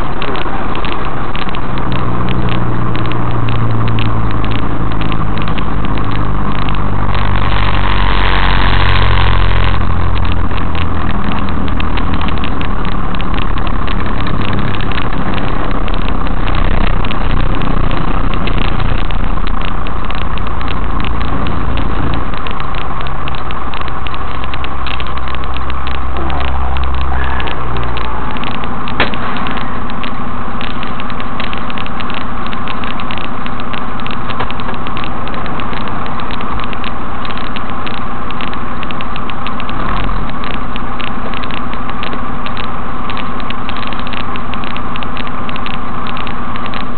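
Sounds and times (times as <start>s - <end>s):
diesel engine drone: 0.0s - 46.9s
road noise: 0.0s - 46.9s.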